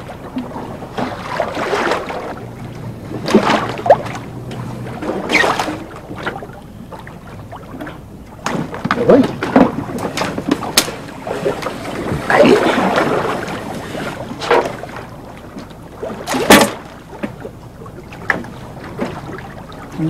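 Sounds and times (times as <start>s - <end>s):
water slapping against a hull: 0.0s - 20.0s
wind: 0.0s - 20.0s.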